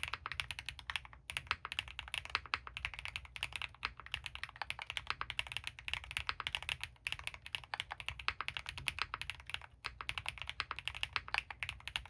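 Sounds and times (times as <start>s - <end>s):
fast typing on mechanical keyboard: 0.0s - 12.0s.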